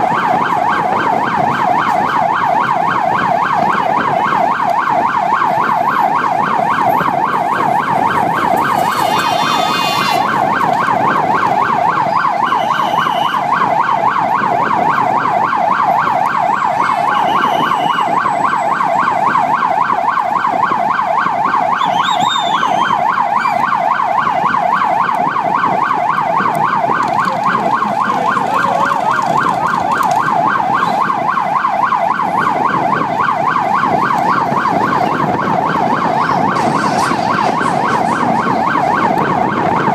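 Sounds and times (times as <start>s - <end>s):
electronic siren yelping: 0.0s - 39.9s
vehicle and road rumble: 0.0s - 39.9s.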